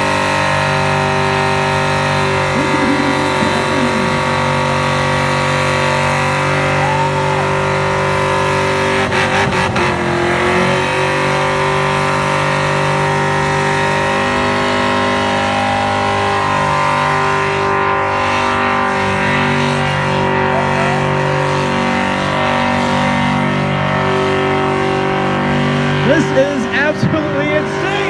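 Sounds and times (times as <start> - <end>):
car engine at high revs: 0.0 - 28.0.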